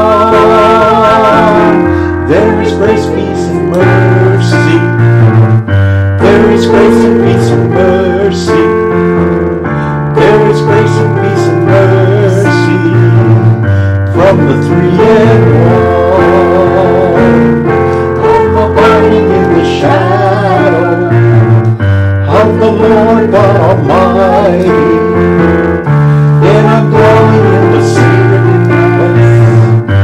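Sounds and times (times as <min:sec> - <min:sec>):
person singing gospel: 0:00.0 - 0:09.2, 0:09.8 - 0:25.5, 0:26.1 - 0:30.0
sustained keyboard chords: 0:00.0 - 0:30.0.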